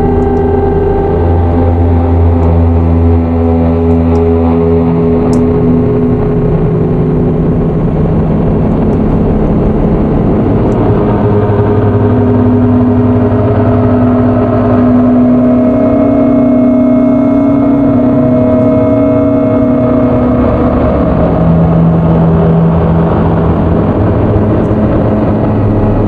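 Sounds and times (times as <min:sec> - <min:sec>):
analog synth low drone: 0:00.0 - 0:26.0
higher synth tone: 0:00.0 - 0:26.0.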